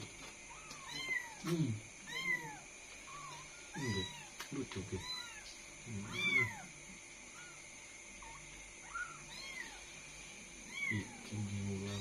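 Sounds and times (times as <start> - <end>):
kittens mewing: 0.5 - 7.6, 8.2 - 9.9, 10.7 - 12.0.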